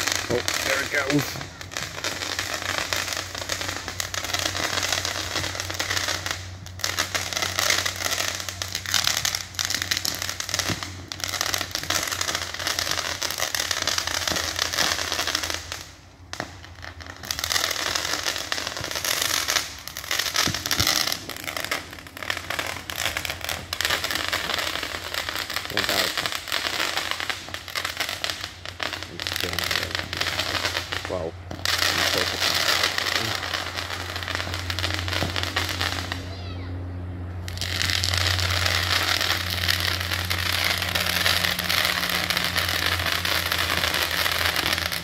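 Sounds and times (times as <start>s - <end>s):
firecrackers crackling: 0.0s - 45.0s.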